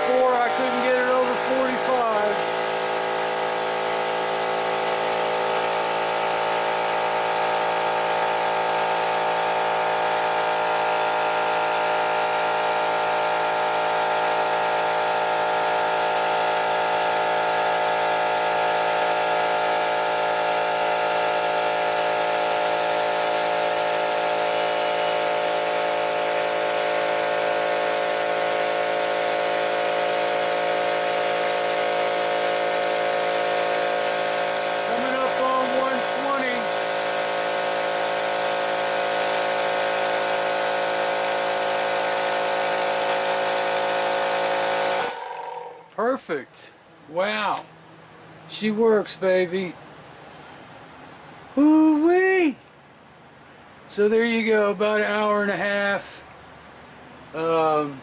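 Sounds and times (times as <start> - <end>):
air compressor running: 0.0 - 46.1, 55.6 - 58.0.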